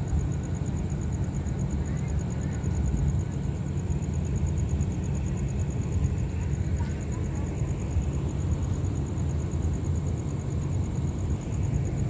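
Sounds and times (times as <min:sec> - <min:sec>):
diesel train engines idling: 0:00.0 - 0:12.0.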